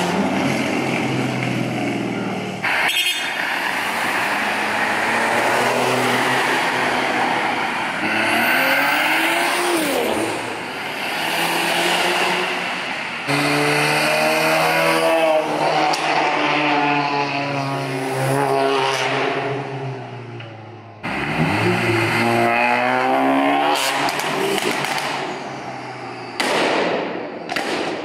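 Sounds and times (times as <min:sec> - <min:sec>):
cars accelerating with revving exhausts: 0:00.0 - 0:20.4, 0:21.0 - 0:26.6.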